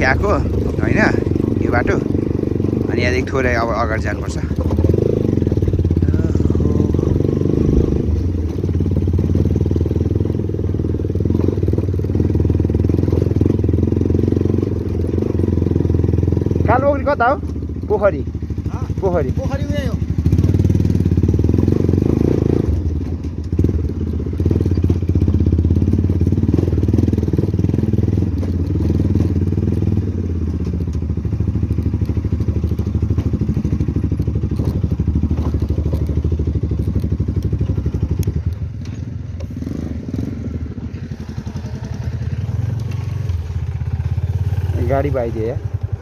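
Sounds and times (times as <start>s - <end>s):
motorcycle engine under load: 0.0s - 46.0s.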